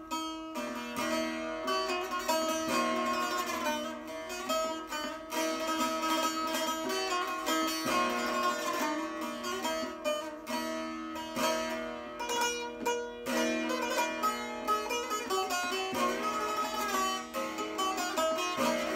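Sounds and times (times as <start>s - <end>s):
plucked lute runs: 0.0s - 18.9s.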